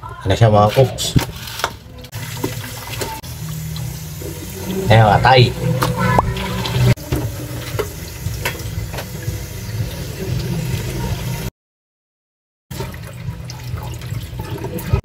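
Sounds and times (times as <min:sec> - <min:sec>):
tap water running into basin: 0:01.2 - 0:11.5, 0:12.7 - 0:15.0.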